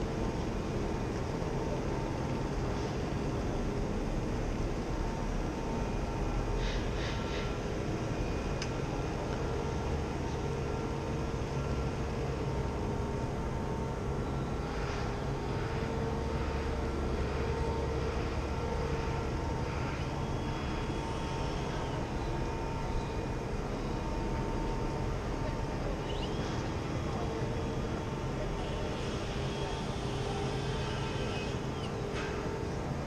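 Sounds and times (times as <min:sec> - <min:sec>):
faint hum: 0:00.0 - 0:33.0
low city rumble: 0:00.0 - 0:33.0.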